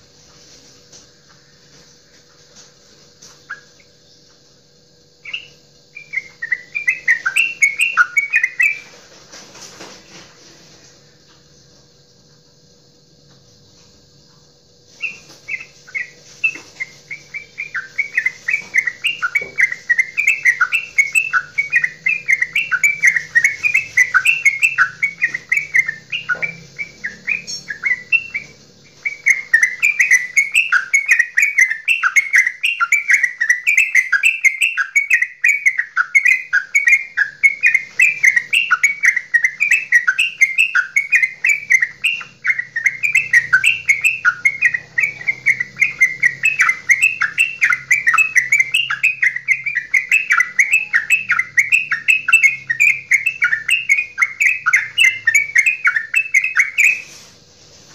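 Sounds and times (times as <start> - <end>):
bird chattering song: 1.1 - 10.3, 14.8 - 57.9.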